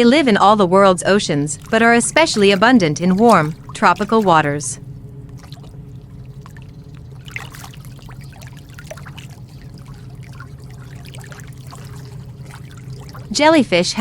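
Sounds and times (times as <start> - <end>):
steady low drone: 0.0 - 14.0
bubbling trickling water: 1.1 - 14.0.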